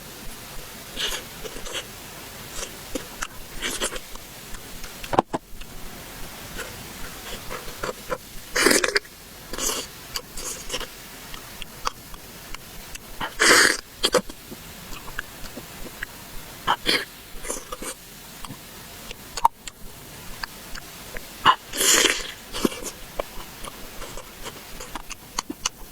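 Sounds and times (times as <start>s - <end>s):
wet chewing mouth sounds: 0.2s - 25.9s.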